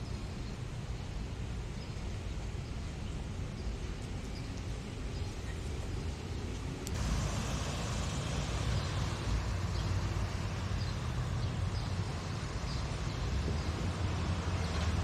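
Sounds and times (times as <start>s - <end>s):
low traffic rumble: 0.0s - 15.0s
street noise: 0.0s - 15.0s.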